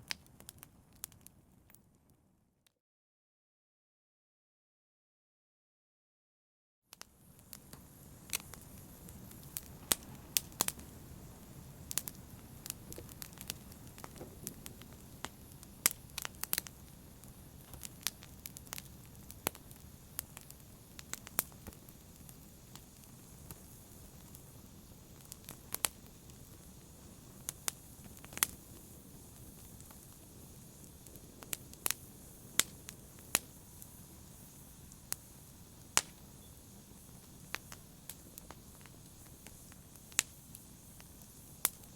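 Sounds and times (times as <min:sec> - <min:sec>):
fireplace fire crackling: 0:00.0 - 0:02.1, 0:06.9 - 0:41.9.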